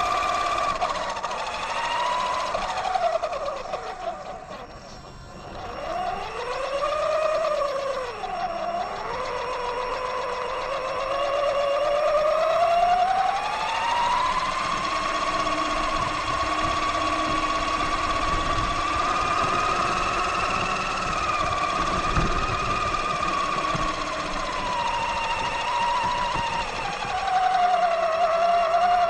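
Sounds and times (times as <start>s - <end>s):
electric motor whining: 0.0s - 29.0s
wheels rumbling and rattling: 0.0s - 29.0s.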